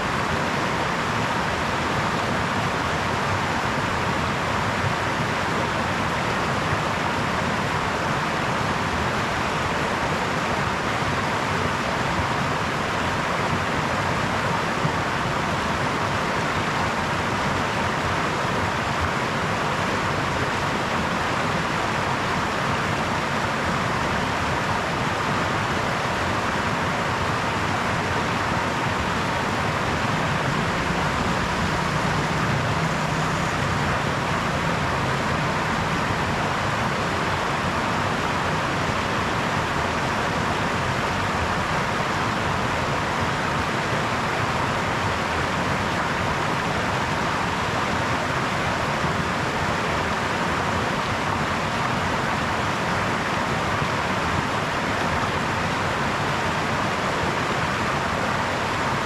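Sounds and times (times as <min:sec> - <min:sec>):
brook water babbling: 0:00.0 - 0:59.0.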